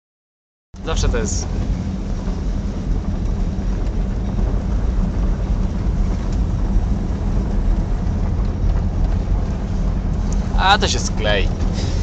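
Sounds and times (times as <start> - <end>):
car engine and road noise: 0.8 - 12.0.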